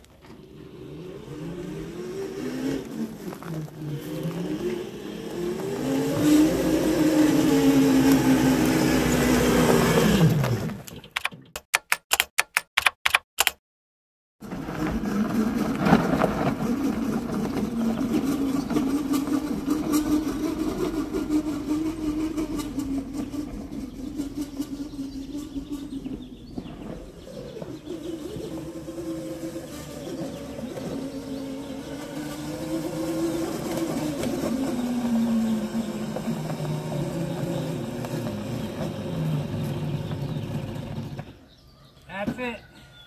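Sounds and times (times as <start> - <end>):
electric quad motor whine: 0.0 - 10.9, 14.5 - 41.7.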